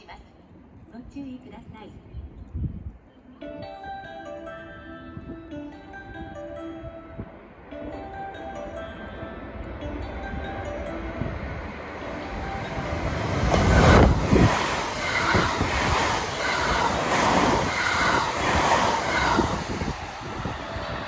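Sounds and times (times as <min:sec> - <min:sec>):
electric train passing at speed: 0:03.5 - 0:21.0.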